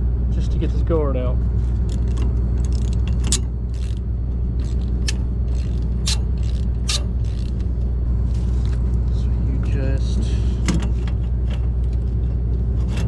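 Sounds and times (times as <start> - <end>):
combine engine droning: 0.0 - 13.0.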